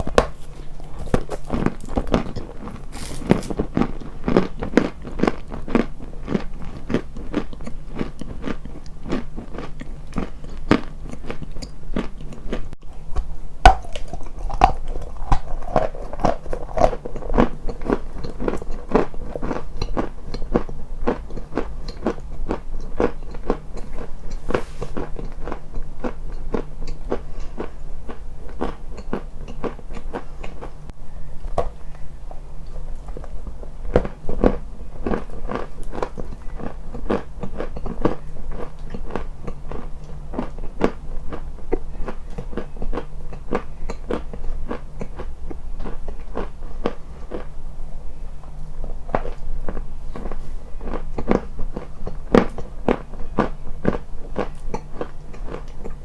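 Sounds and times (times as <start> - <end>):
person chewing something crunchy: 0.0 - 32.0, 32.6 - 47.6, 48.3 - 56.0
low steady hum: 0.0 - 56.0.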